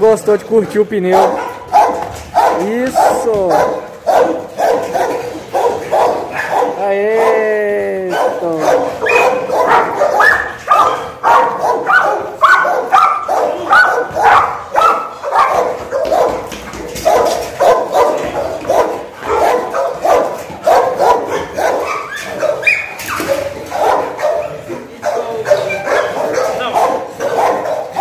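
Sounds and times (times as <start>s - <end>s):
dogs barking rapidly: 0.5s - 28.0s.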